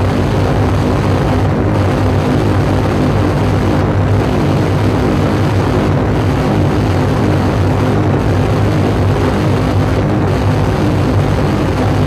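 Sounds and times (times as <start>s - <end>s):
electronic noise drone: 0.0s - 12.0s.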